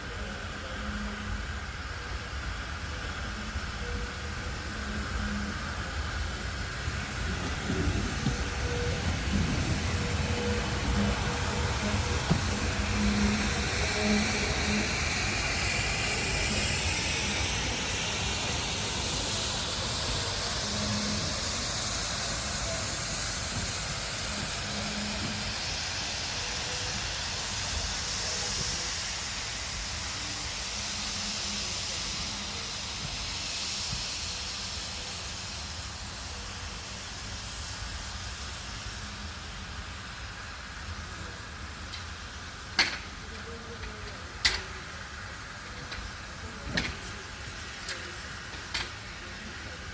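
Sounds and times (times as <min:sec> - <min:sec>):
steam locomotive hissing: 0:00.0 - 0:49.9.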